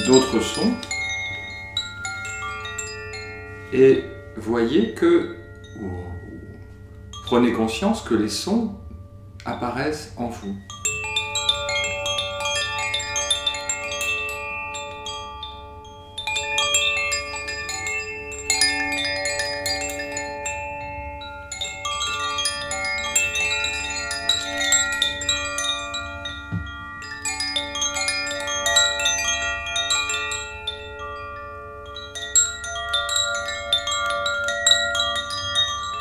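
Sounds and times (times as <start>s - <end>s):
hanging chimes ringing: 0.0s - 36.0s.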